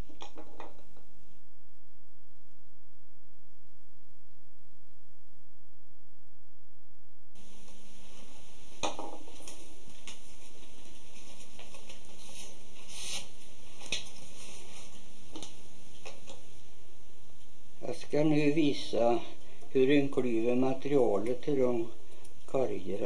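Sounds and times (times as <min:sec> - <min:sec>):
room tone hiss: 0:00.0 - 0:23.0.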